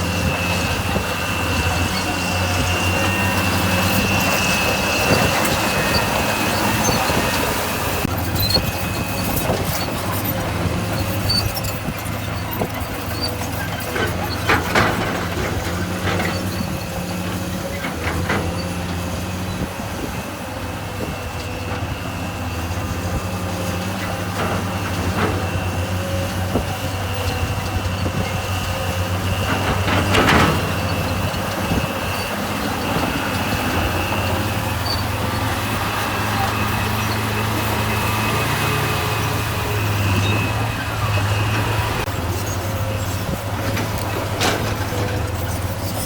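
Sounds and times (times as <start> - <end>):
diesel engine running with high whine: 0.0 - 46.0.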